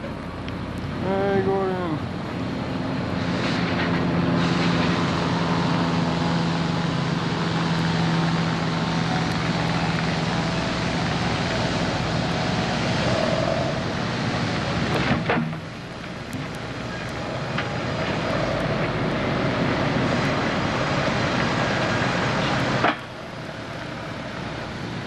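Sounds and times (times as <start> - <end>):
sawmill machinery drone: 0.0 - 25.0.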